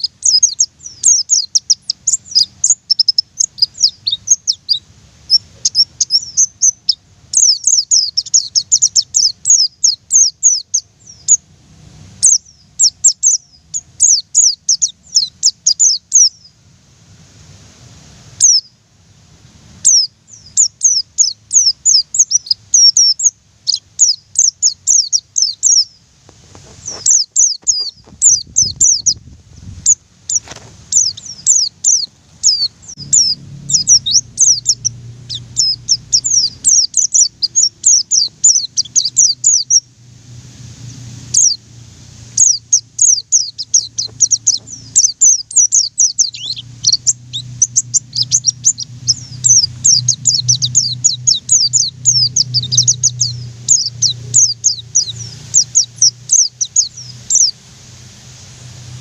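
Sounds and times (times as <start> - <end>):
bird singing high fast runs: 0.0 - 16.6, 18.4 - 18.8, 19.8 - 26.1, 26.7 - 59.0.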